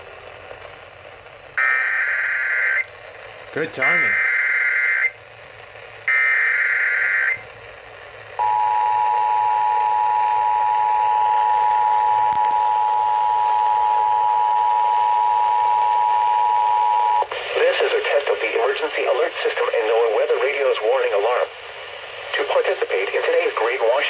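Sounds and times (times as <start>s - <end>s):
radio hiss: 0.0s - 14.4s, 16.8s - 24.0s.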